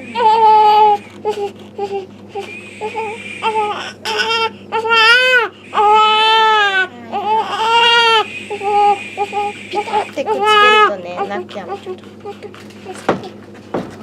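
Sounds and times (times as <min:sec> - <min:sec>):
newborn baby crying: 0:00.0 - 0:13.1.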